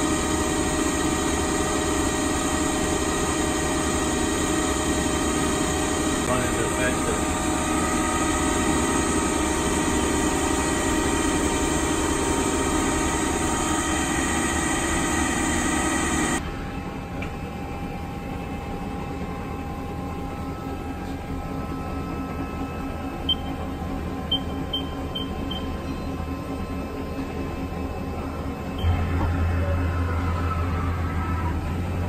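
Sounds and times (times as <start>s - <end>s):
lathe machine hum: 0.0s - 32.0s
machine whining tones: 0.0s - 32.0s.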